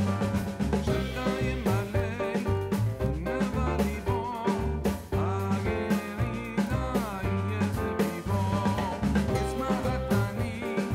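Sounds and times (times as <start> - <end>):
bass notes: 0.0 - 10.9
drum beat: 0.0 - 10.9.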